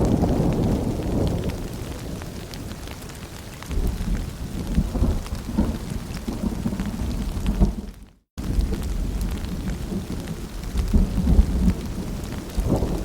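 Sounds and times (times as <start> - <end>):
rain falling: 0.0 - 13.0
thunder rumbling: 0.0 - 13.0.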